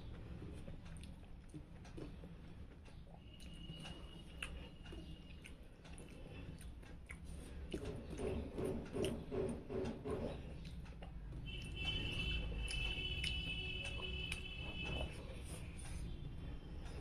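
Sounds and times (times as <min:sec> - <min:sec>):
chewing: 0:00.1 - 0:16.0.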